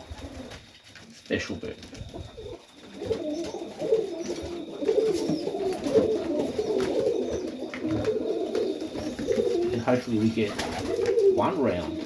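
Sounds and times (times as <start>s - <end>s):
pigeons cooing: 0.0s - 1.1s, 1.8s - 12.0s.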